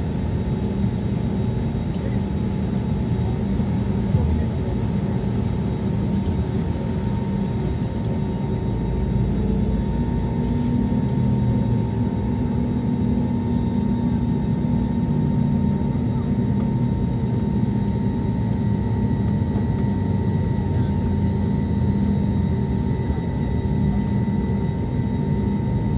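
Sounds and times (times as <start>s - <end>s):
airplane cabin engine rumble: 0.0s - 25.9s.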